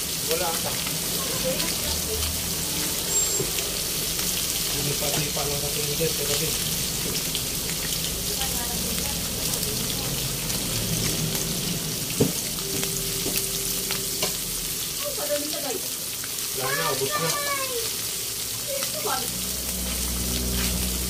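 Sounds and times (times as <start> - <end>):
fish frying in hot oil: 0.0 - 21.0
spattering oil crackles: 0.0 - 21.0.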